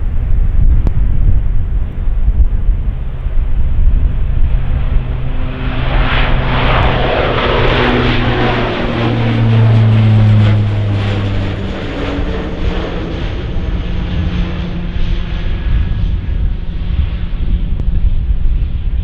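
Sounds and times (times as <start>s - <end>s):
jet engines passing: 0.0s - 19.0s.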